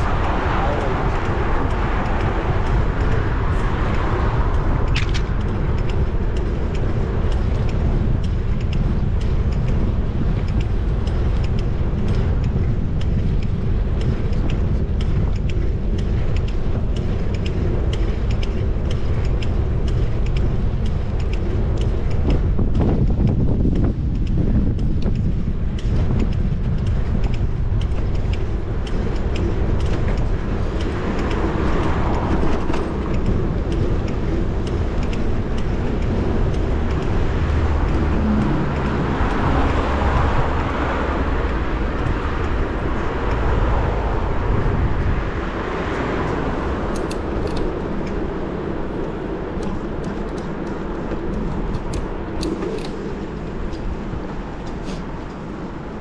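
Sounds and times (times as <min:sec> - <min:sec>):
vehicle passing: 0:00.0 - 0:22.5, 0:26.8 - 0:56.0
street traffic: 0:00.0 - 0:56.0
wind rumble on microphone: 0:00.0 - 0:56.0.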